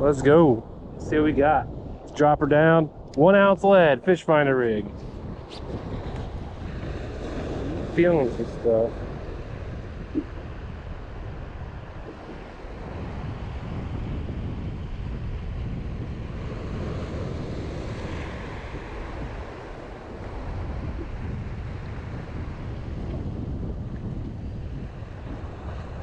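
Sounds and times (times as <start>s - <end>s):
wind buffeting microphone: 0.0s - 26.0s
waves slapping a boat: 2.2s - 26.0s.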